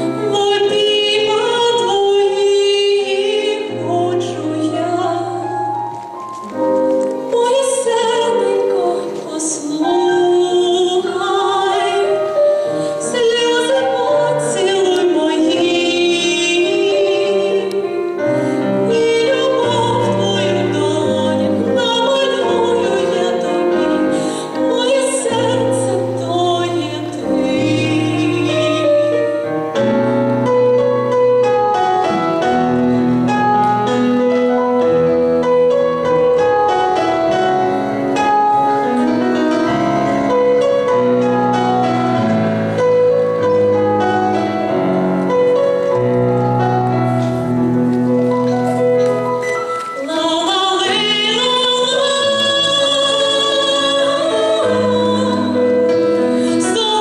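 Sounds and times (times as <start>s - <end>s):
instrumental backing: 0.0s - 57.0s.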